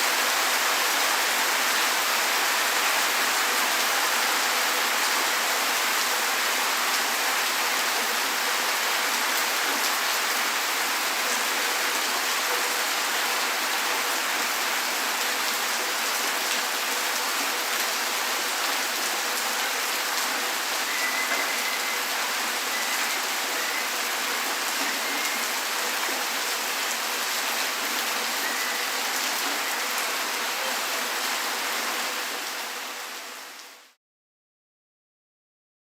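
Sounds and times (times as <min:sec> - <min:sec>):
heavy rain on pavement: 0:00.0 - 0:34.0.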